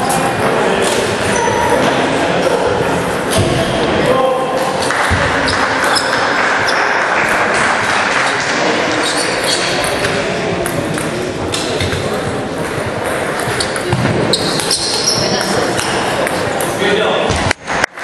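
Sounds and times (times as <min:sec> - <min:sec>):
echoing hubbub of voices: 0:00.0 - 0:18.0.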